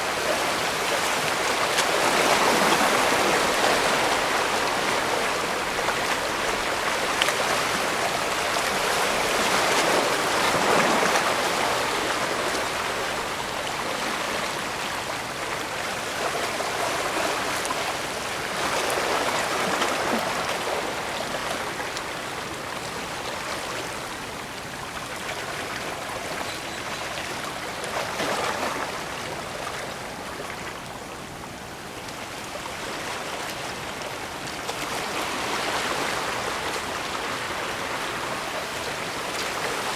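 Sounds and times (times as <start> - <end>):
small waves washing and splashing: 0.0 - 39.9.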